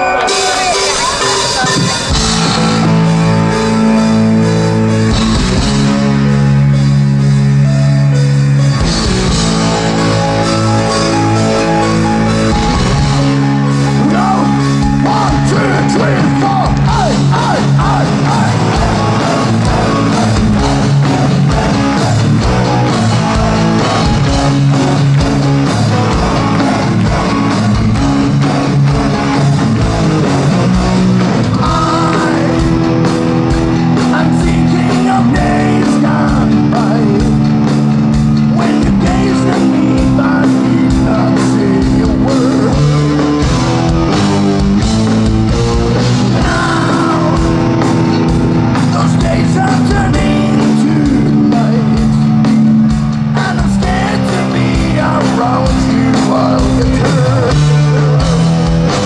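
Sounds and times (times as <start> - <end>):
hard rock band playing live: 0.0 - 59.0.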